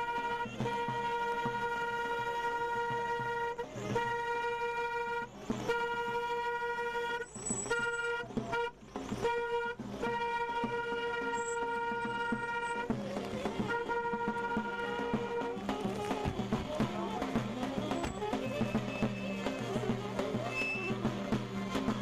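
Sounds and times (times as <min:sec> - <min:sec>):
car horn blasts: 0:00.0 - 0:21.1.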